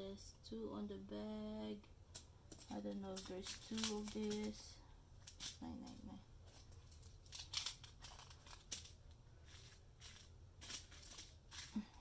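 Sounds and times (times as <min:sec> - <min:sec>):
plastic bags crinkling: 0:02.1 - 0:12.0.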